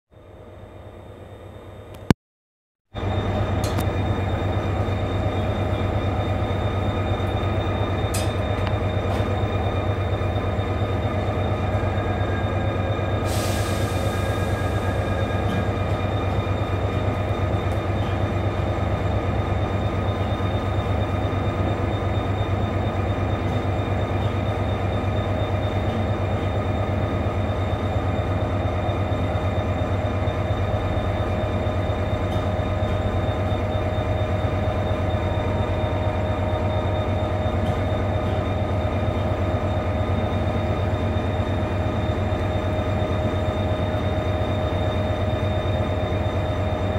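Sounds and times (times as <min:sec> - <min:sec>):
idling locomotive hum: 0:00.2 - 0:02.1, 0:02.9 - 0:46.9.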